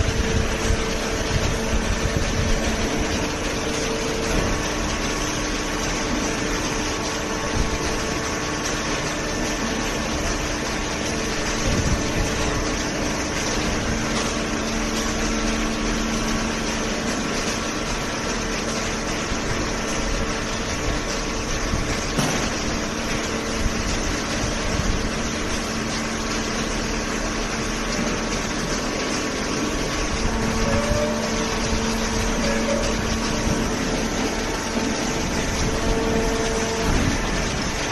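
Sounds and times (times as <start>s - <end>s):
baler motor and pump humming: 0.0s - 37.9s.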